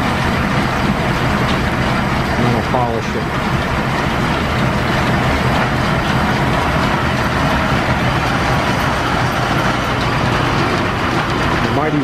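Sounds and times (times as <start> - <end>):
belt-driven lathe running: 0.0 - 12.0.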